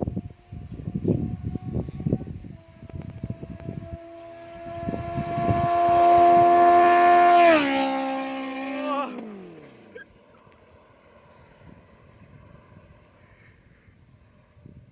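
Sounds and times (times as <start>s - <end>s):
motorcycle engine at high revs: 0.0s - 13.2s.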